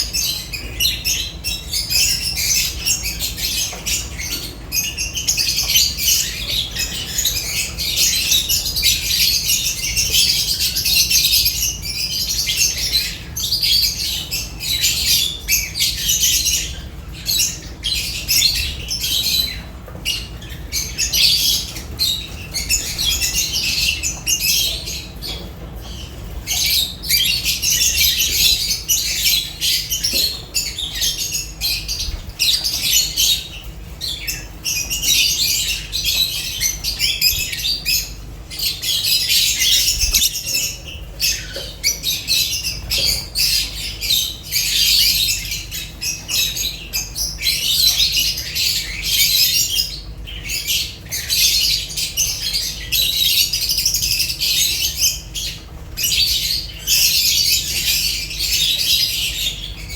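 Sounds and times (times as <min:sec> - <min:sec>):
lovebirds chirping and screeching: 0:00.0 - 0:59.9.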